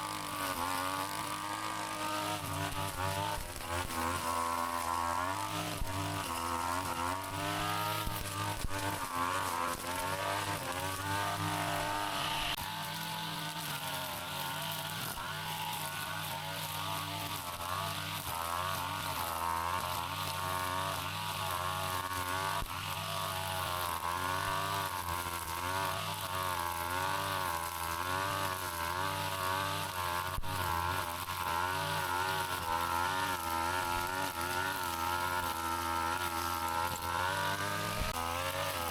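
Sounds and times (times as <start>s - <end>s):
brush cutter engine running: 0.0s - 38.9s.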